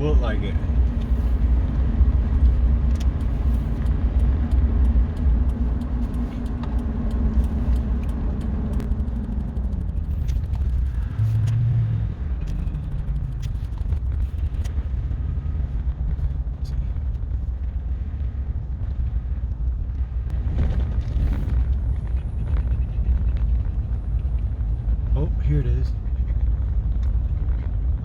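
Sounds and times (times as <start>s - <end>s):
steady hum: 0.0s - 28.0s
truck engine and road rumble: 0.0s - 28.0s.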